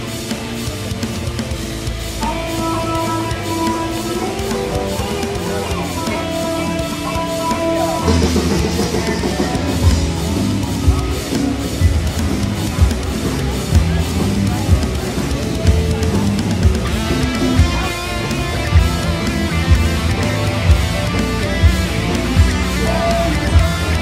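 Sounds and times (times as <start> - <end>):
electric guitar chords: 0.0 - 24.0
rock drum beat: 0.0 - 24.0.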